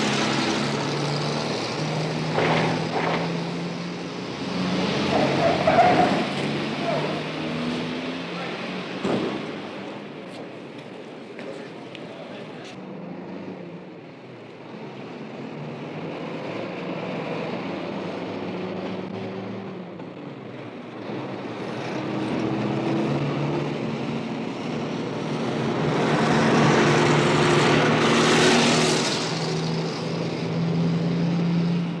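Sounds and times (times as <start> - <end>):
heavy road traffic: 0.0 - 32.0.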